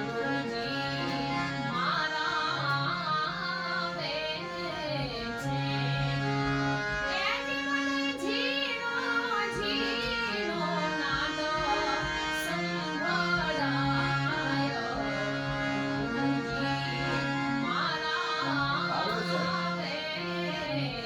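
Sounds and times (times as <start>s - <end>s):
instrument holding steady notes: 0.0s - 21.0s
woman singing devotional song: 0.0s - 21.0s.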